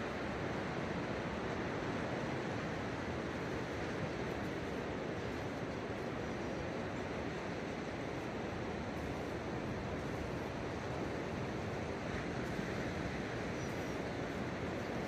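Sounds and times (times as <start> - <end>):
ocean surf: 0.0 - 15.0.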